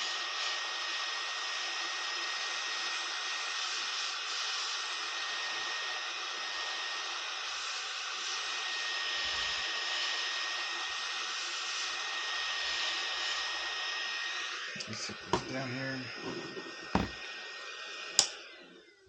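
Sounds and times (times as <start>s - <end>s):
hot air blower rushing: 0.0s - 18.9s.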